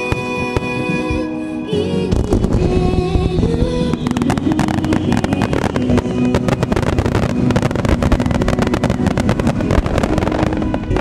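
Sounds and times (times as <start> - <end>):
fireworks bursting: 0.0 - 11.0
show music: 0.0 - 11.0.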